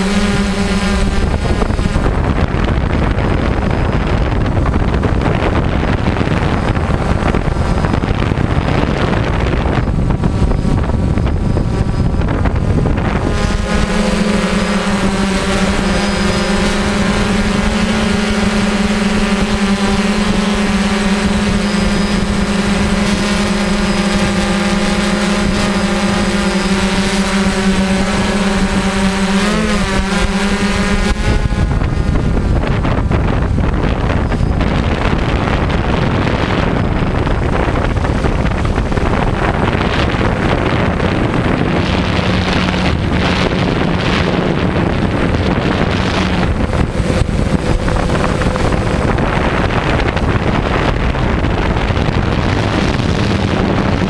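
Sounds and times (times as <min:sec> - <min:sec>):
drone propellers humming: 0:00.0 - 0:54.0
wind rush on microphone: 0:00.0 - 0:54.0.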